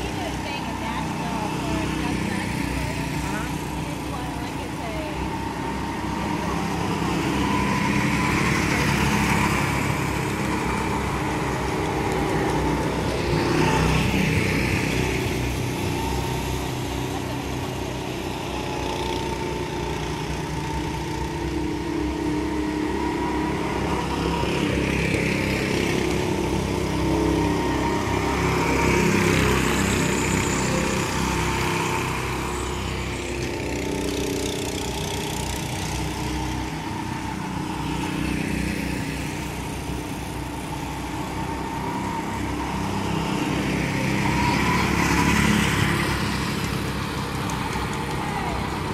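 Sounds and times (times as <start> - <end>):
go-kart engines buzzing: 0.0 - 48.9.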